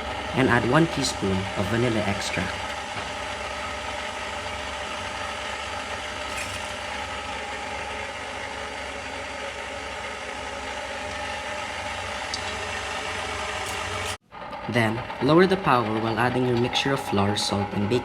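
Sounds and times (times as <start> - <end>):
stand mixer whirring: 0.0 - 18.0.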